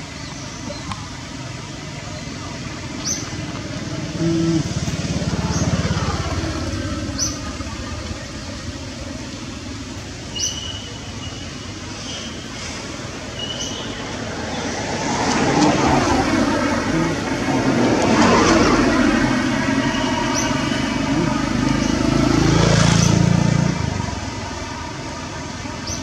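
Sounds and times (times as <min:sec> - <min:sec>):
vehicle engine passing by: 0:01.5 - 0:26.0.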